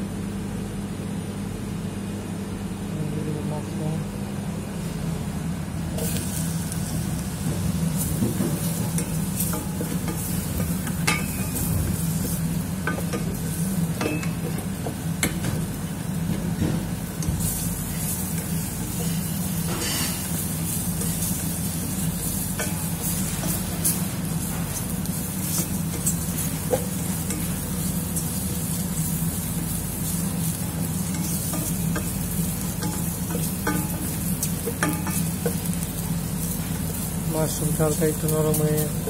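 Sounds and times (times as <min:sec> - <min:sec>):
mushrooms sizzling in a pan: 0:05.8 - 0:39.0.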